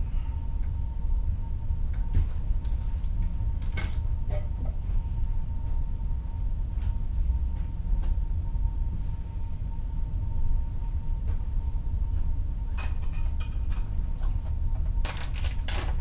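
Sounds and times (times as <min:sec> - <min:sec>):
faint steady hum: 0:00.0 - 0:16.0
ship engine low rumble: 0:00.0 - 0:16.0.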